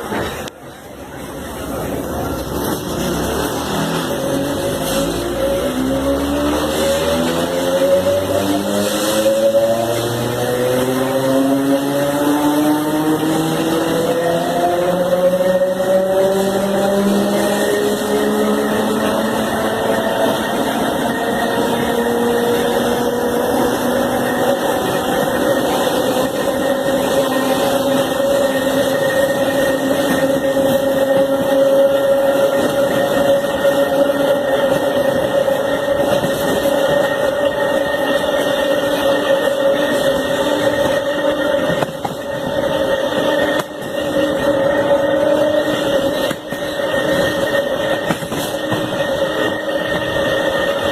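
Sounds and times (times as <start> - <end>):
train traction motors growling: 0.0 - 50.9.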